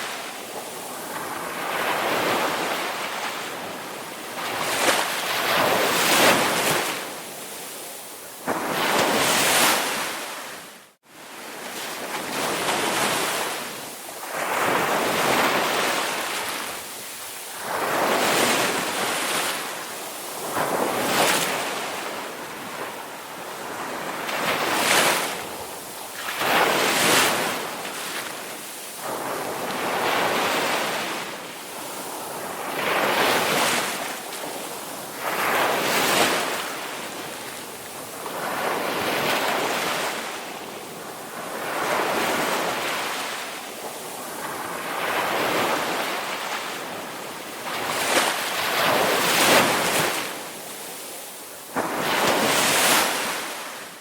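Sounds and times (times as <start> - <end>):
ocean waves washing on shore: 0.0 - 54.0.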